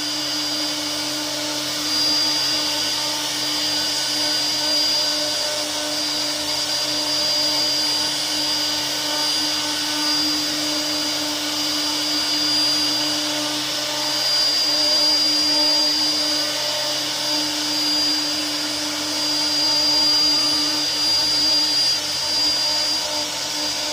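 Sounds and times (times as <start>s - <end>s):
cnc router spindle whining: 0.0s - 23.9s.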